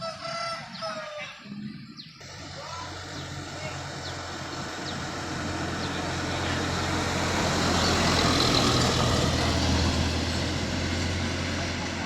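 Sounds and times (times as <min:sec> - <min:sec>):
truck passing: 0:02.2 - 0:12.0.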